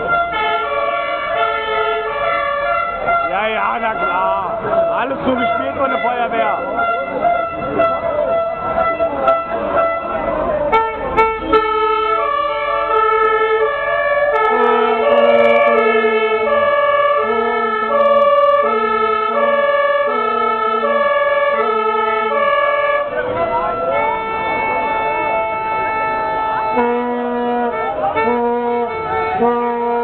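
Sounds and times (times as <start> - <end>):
two-tone emergency siren: 0.0 - 30.0.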